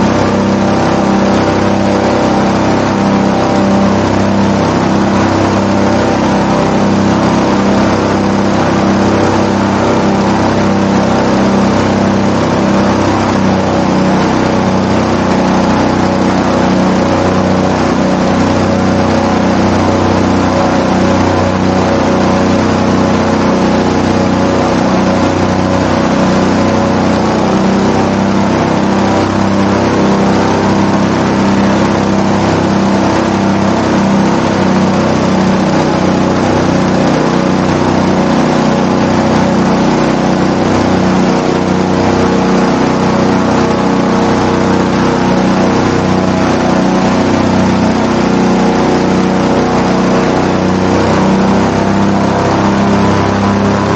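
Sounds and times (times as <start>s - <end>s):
airboat engine drone: 0.0s - 53.9s.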